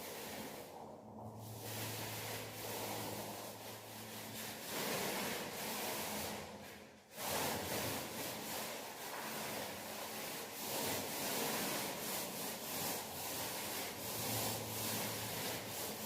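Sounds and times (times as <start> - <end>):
paint rubbing strokes on wall: 0.0 - 16.0.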